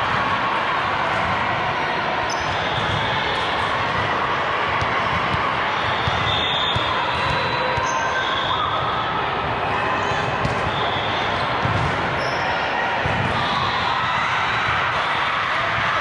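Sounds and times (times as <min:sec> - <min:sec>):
din of many voices: 0:00.0 - 0:16.0
volleyballs hit and bouncing: 0:00.0 - 0:16.0.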